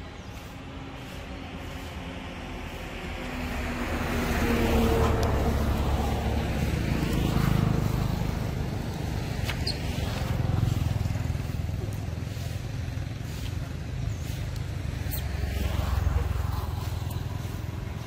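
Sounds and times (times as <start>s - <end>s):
motor vehicle engine running: 0.0s - 18.0s.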